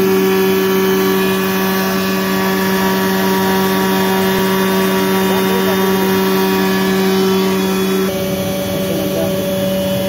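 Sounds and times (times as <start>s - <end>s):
air compressor humming: 0.0s - 10.0s.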